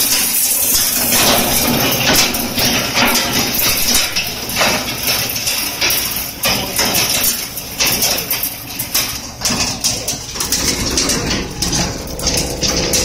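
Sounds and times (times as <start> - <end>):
machine motor hum: 0.0 - 13.0
sharp cracks and clatters: 0.0 - 13.0.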